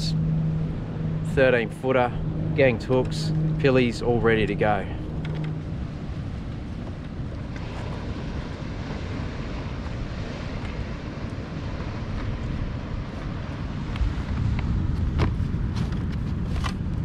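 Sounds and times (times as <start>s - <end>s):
ocean surf breaking on rocks: 0.0s - 15.8s
wind buffeting microphone: 0.0s - 17.0s.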